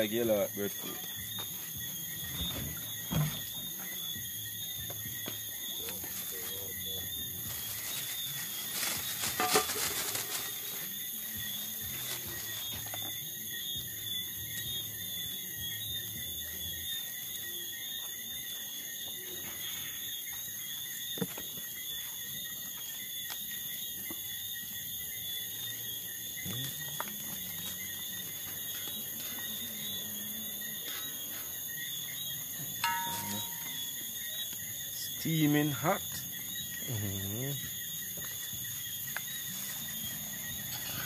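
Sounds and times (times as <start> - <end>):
crickets and insects chirring: 0.0 - 41.0.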